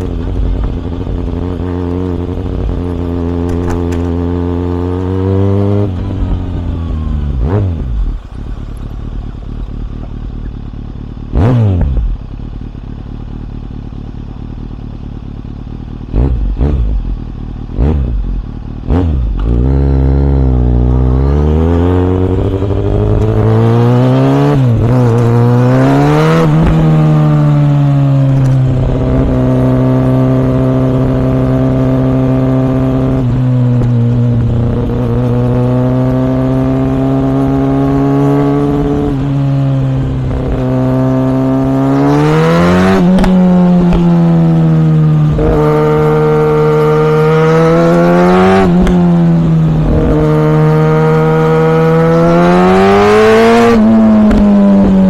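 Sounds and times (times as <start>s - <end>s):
motorcycle engine while riding: 0.0s - 55.0s.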